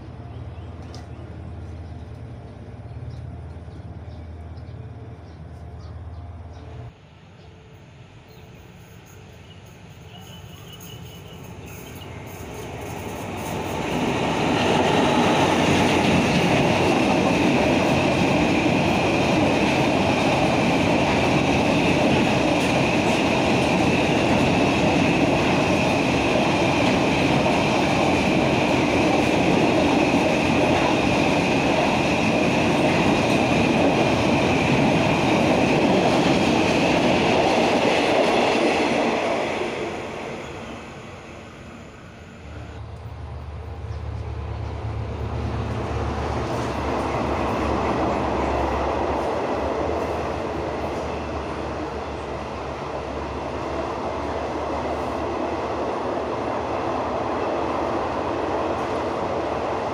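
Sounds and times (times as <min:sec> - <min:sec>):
train wheels rumbling on rails: 0:00.0 - 0:07.0, 0:08.5 - 0:59.9.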